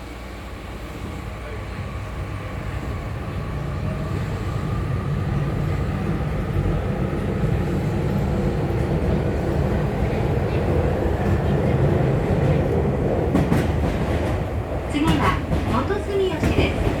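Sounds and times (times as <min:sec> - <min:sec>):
train wheels on rail: 0:00.0 - 0:17.0.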